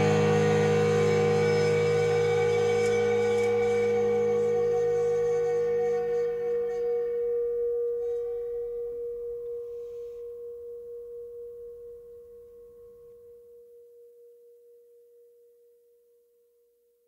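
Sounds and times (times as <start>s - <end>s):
singing bowl ringing: 0.0s - 15.5s.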